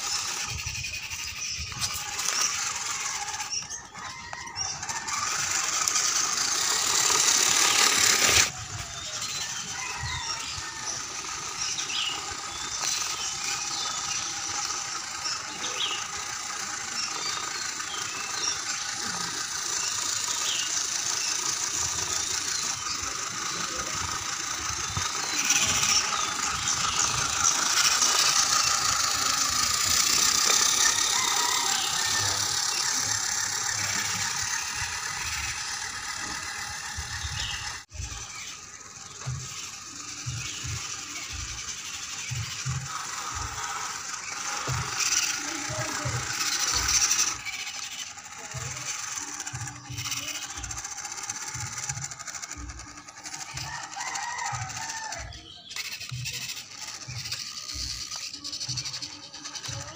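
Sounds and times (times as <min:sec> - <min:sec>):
toy truck electric motor whining: 0:00.0 - 0:59.9.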